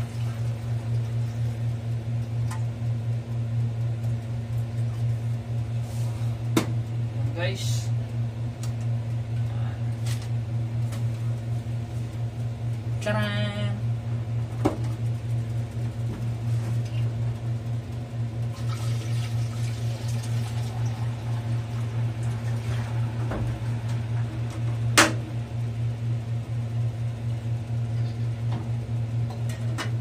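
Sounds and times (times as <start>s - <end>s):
low appliance hum: 0.0s - 30.0s.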